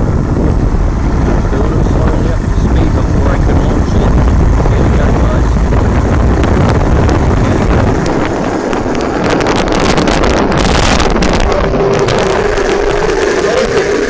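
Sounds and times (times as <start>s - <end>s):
electric motor whine: 0.0s - 14.0s
wind buffeting microphone: 0.0s - 14.0s.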